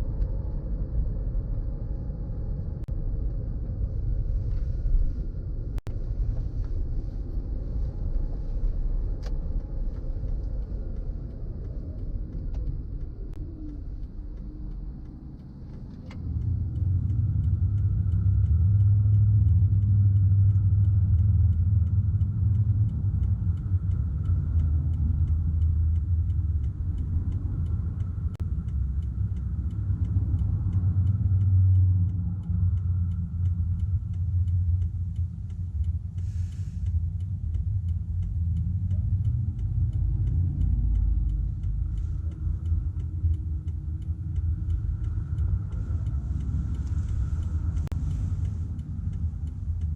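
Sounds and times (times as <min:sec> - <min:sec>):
car driving rumble: 0:00.0 - 0:49.9
faint regular ticking: 0:05.8 - 0:49.9.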